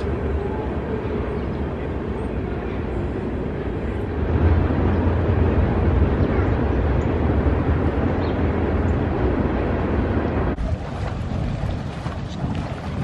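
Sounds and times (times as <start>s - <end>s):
steady low rumbling: 0.0s - 13.0s.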